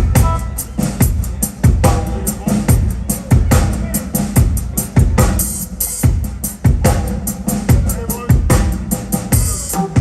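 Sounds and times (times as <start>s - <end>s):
blues band playing: 0.0s - 10.0s.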